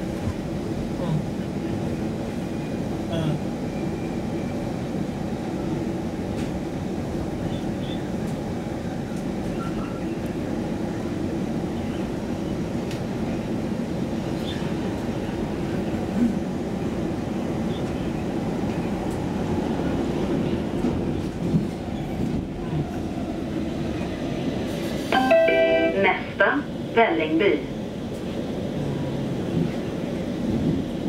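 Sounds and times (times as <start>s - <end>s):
train rumbling at speed: 0.0s - 31.0s.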